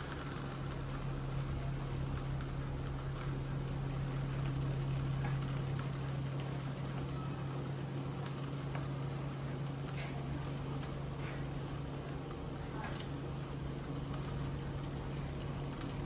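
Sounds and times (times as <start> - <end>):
cotton candy machine motor hum: 0.0 - 16.0
light ticks and patter: 0.0 - 16.0.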